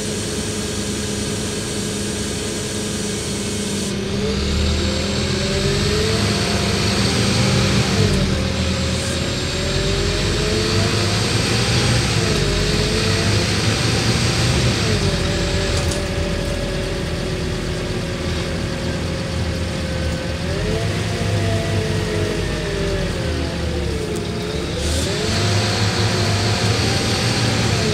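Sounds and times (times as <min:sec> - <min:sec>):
bus diesel engine and gearbox whine: 0:00.0 - 0:27.9.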